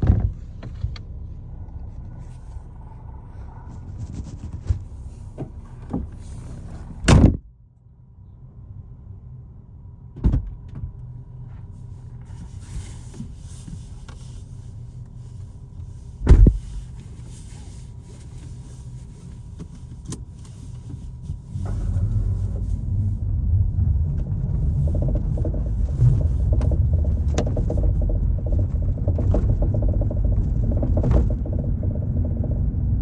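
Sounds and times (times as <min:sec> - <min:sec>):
car interior rumble: 0:00.0 - 0:33.0.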